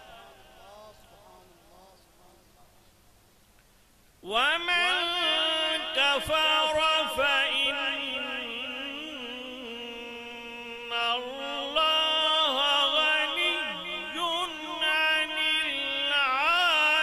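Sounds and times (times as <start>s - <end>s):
man chanting through microphone: 0.0s - 3.0s, 4.2s - 17.0s.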